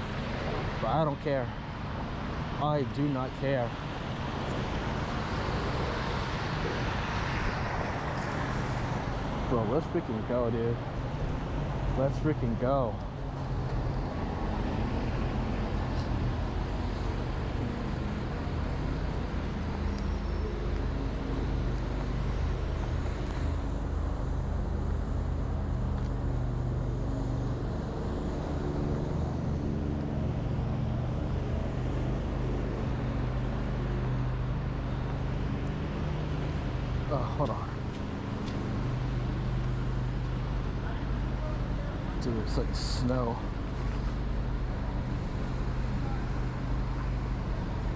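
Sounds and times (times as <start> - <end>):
city traffic noise: 0.0 - 47.9
vehicle engine humming: 0.0 - 47.9.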